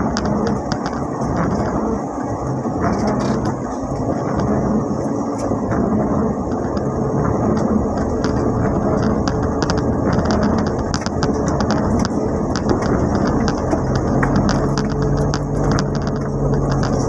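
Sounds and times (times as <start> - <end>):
light ticks of rain: 0.0 - 17.0
van engine and road noise: 0.0 - 17.0.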